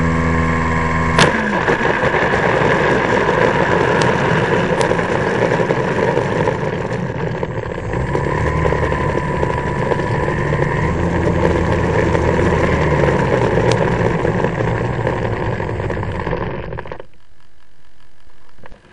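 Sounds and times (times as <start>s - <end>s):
electric motor and propeller whine: 0.0s - 18.9s.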